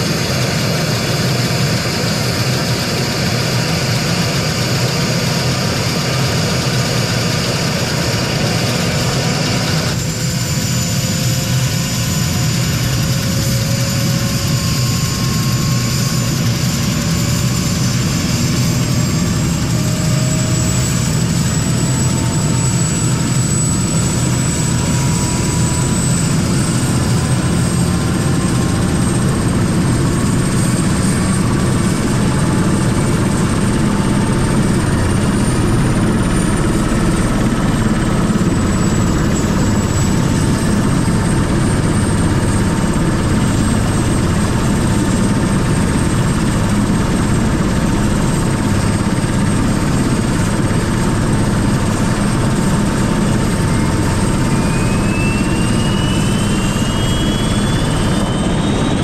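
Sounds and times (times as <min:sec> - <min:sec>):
helicopter rotor and engine rumble: 0:00.0 - 0:59.0
turbine whine: 0:00.0 - 0:59.0.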